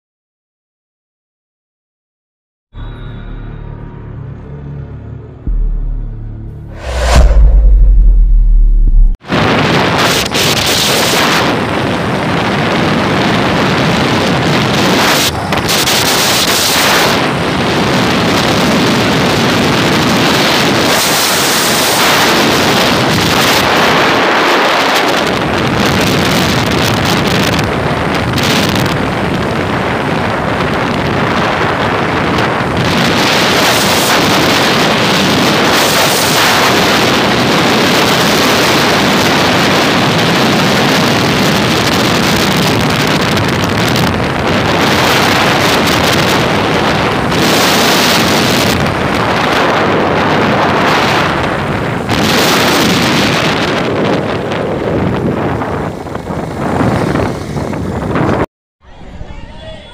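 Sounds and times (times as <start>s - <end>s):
wind buffeting microphone: 6.7s - 58.5s.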